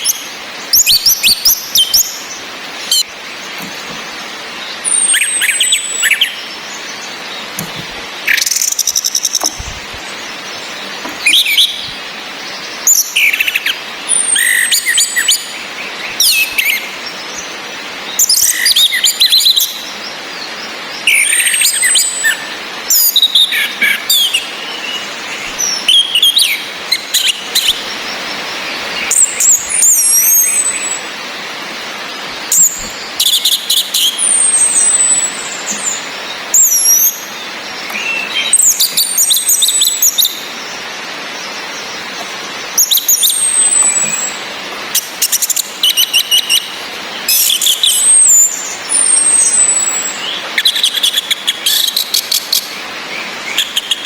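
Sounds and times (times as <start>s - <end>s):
rain hissing: 0.0s - 54.0s
thrushes calling: 0.0s - 54.0s.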